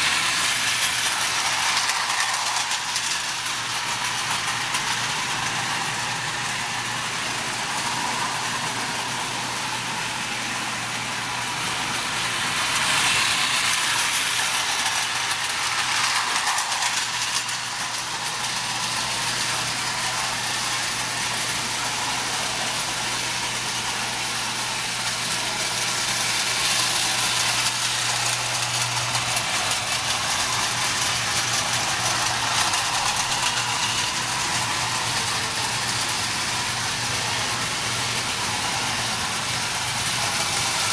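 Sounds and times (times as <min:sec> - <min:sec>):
toy train wheels clattering: 0:00.0 - 0:40.9.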